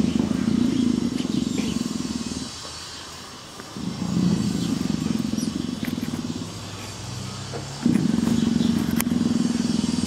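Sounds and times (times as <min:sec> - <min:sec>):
leopard purring: 0:00.0 - 0:10.0.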